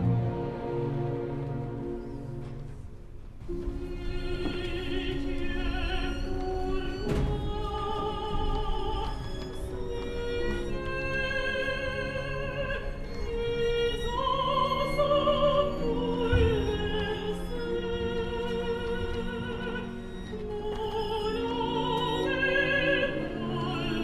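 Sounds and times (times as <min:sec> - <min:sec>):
bowed strings: 0:00.0 - 0:24.0
operatic singing: 0:03.5 - 0:24.0.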